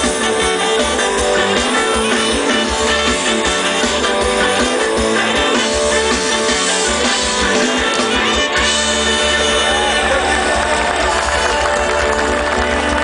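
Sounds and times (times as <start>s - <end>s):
electric guitar: 0.0s - 13.0s
live band playing loudly: 0.0s - 13.0s.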